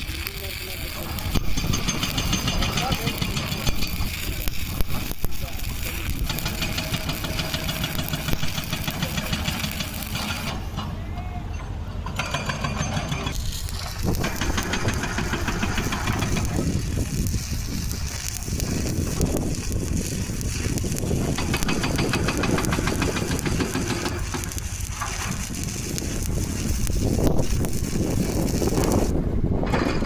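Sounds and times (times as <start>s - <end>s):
welding arc crackling: 0.0s - 10.8s, 12.2s - 30.0s.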